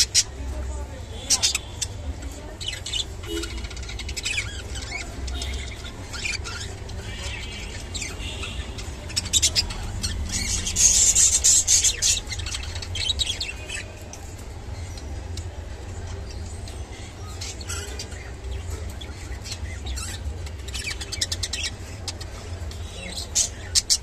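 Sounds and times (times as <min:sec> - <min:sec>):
budgerigars chattering and squawking: 0:01.1 - 0:24.0.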